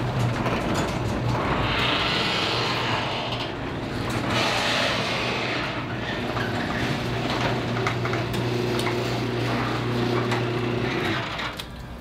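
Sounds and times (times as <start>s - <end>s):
garage door opener motor hum: 0.0s - 12.0s.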